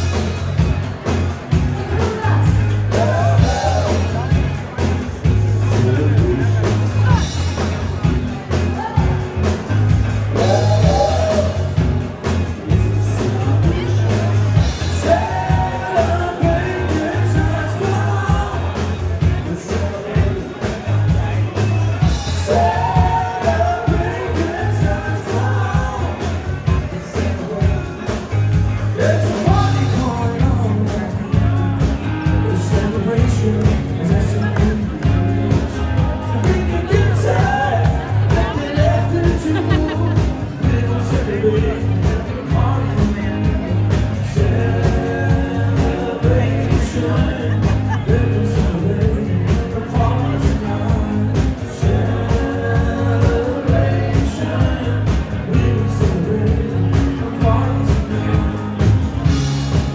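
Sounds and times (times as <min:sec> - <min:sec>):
live rock band playing: 0:00.0 - 0:59.9
person singing: 0:01.8 - 0:07.7, 0:10.3 - 0:59.9.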